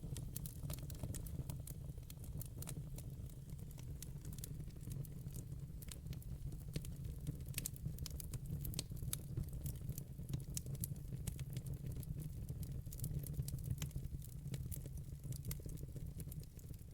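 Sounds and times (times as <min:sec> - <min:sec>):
low rumble of fire: 0:00.0 - 0:16.9
wood fire crackling and popping: 0:00.0 - 0:16.9.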